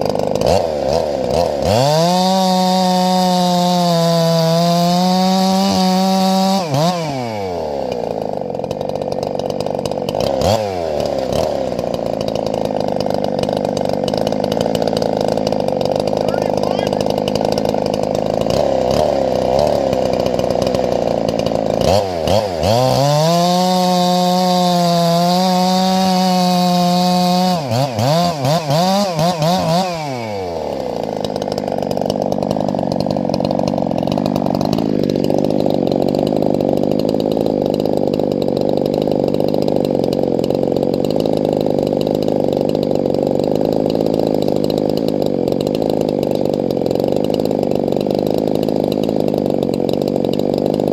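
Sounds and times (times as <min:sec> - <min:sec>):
chainsaw cutting at full throttle: 0:00.0 - 0:50.9
chainsaws running: 0:00.0 - 0:50.9.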